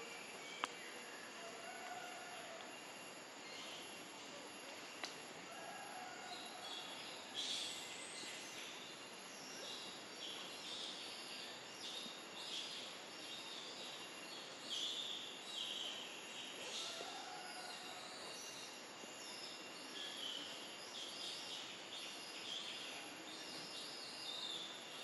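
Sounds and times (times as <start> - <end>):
forest background hiss: 0.0 - 25.0.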